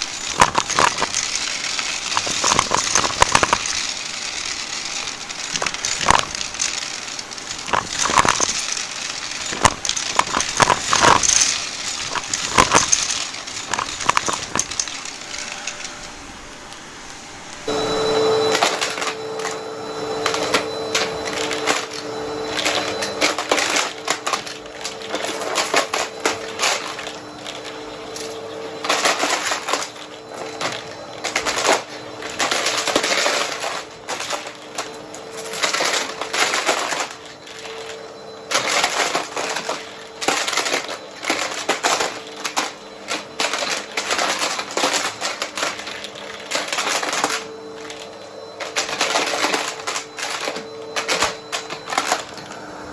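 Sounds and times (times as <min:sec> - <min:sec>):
coins rattling through vacuum: 0:00.0 - 0:16.6, 0:17.6 - 0:52.6
vacuum cleaner motor hum: 0:00.0 - 0:52.9.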